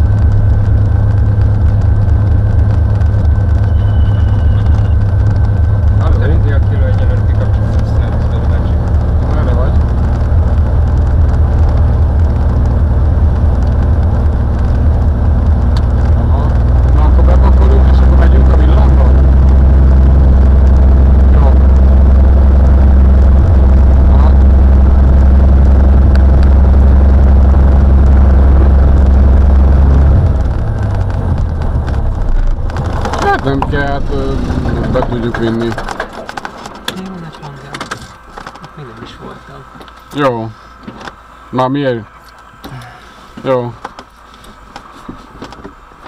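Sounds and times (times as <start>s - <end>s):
propeller plane engine droning: 0.0s - 46.0s.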